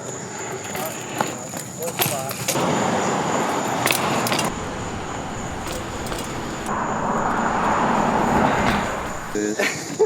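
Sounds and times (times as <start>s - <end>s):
metallic jangling from bike: 0.0s - 9.4s
bike tyres rolling on concrete: 0.0s - 9.5s.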